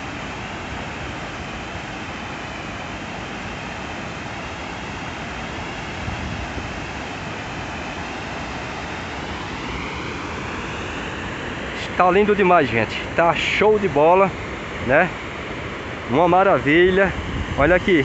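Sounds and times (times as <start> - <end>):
water rushing over spillway: 0.0 - 18.0.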